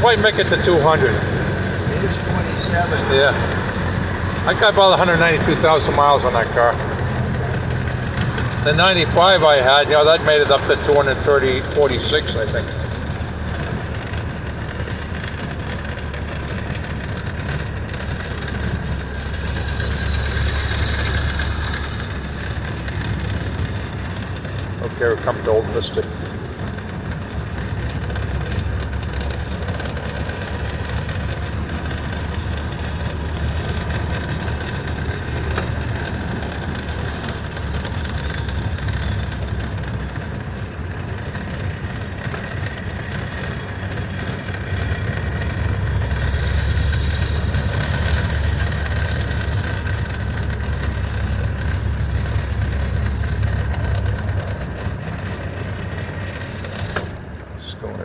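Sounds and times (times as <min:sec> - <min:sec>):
car engine running: 0:00.0 - 0:58.0
road noise: 0:00.0 - 0:58.0.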